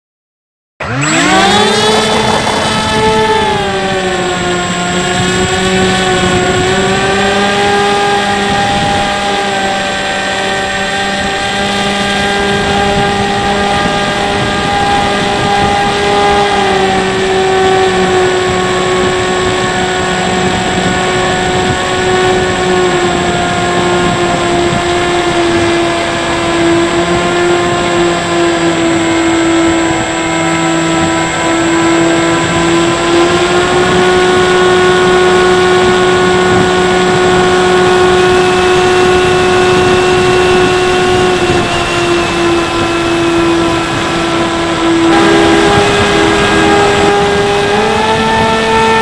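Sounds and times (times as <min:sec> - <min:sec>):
electric motor and propeller whining: 0:00.8 - 0:49.0
wind noise: 0:00.8 - 0:49.0.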